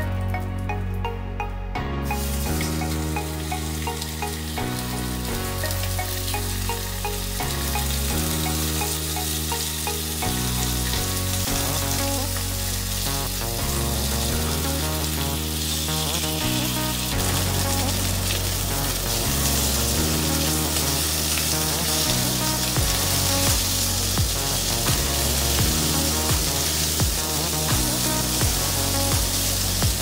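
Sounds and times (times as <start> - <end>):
background music with bass line: 0.0 - 30.0
meat sizzling in hot oil: 2.0 - 30.0.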